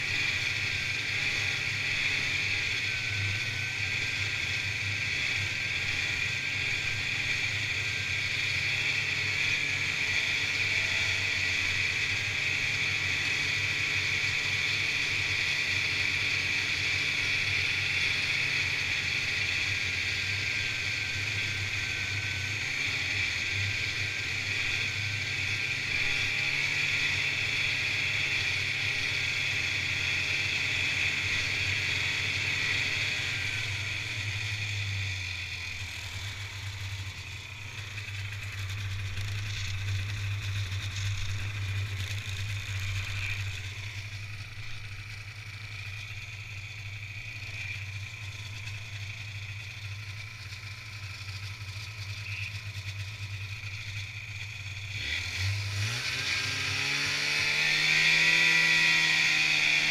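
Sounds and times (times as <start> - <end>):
snowmobile engine and track: 0.0 - 59.9.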